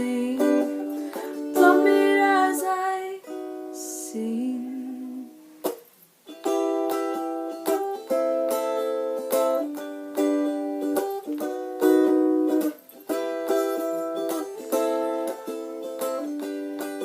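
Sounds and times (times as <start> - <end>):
ukulele strumming chords: 0.0 - 17.0.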